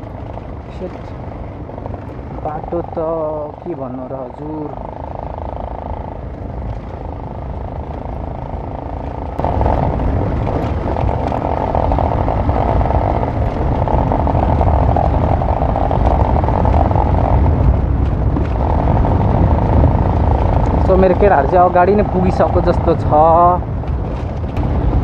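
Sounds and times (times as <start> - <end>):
motorcycle engine: 0.0 - 25.0
wind rushing over microphone: 0.0 - 25.0.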